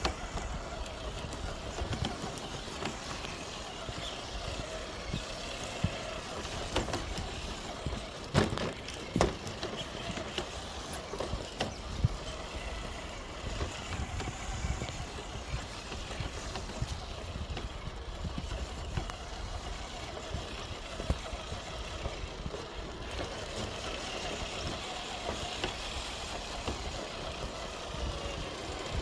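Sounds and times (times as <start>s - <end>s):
distant highway traffic rumble: 0.0s - 29.0s
rc car motor hum: 0.0s - 29.0s.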